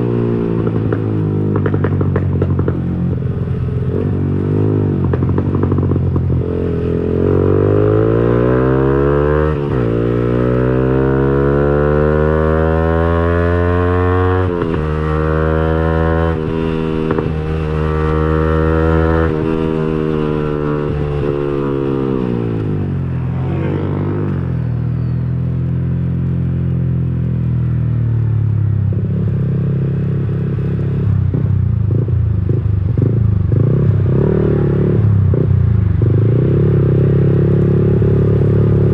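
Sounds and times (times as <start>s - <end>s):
motorcycle engine revving: 0.0s - 27.0s, 28.8s - 38.9s.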